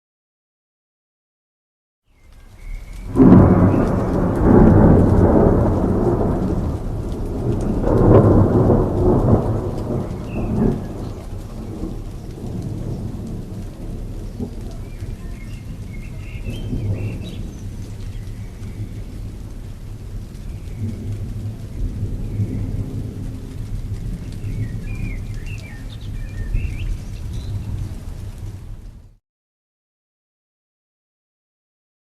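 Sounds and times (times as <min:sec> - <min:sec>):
steady rain: 0:02.1 - 0:29.2
thunder rumbling: 0:02.4 - 0:29.2.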